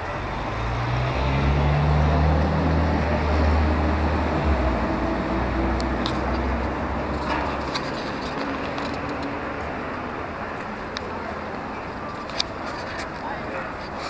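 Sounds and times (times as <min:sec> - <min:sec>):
large vehicle engine running: 0:00.0 - 0:14.0
street traffic: 0:00.0 - 0:14.0.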